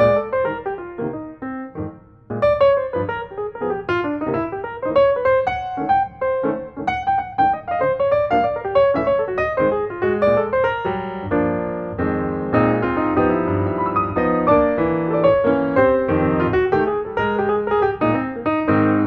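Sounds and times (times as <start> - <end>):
quick piano notes: 0.0 - 19.0.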